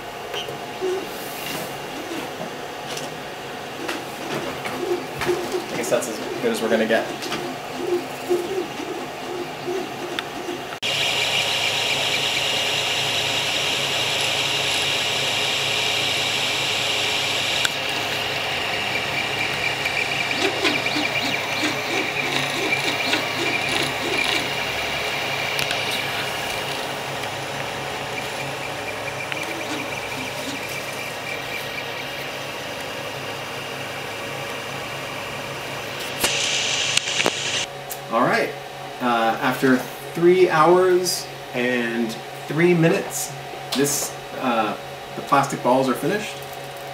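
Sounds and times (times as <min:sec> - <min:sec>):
three d printer whine: 0:00.0 - 0:46.9.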